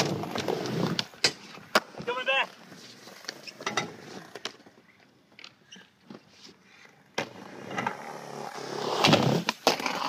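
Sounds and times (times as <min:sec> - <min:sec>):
skateboard wheels on concrete: 0:00.0 - 0:10.0.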